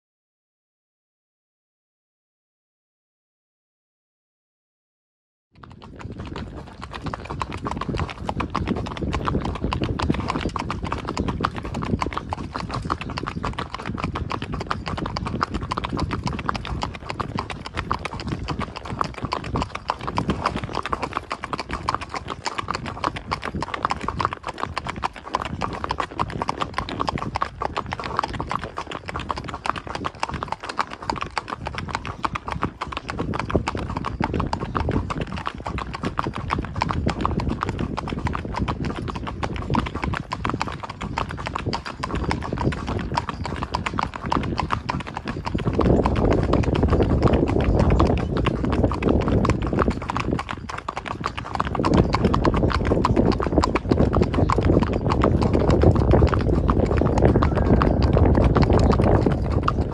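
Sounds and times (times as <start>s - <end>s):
horse hooves on asphalt: 5.6s - 59.9s.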